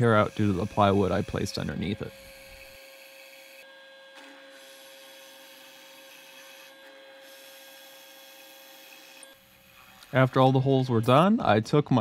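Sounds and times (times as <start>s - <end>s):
drill bit scraping wood: 0.0s - 11.5s
drill press hum: 0.0s - 11.5s.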